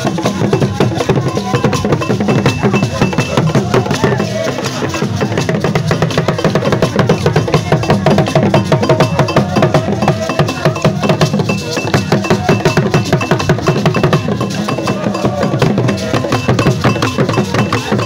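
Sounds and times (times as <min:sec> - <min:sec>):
barrel drums ensemble: 0:00.0 - 0:18.0.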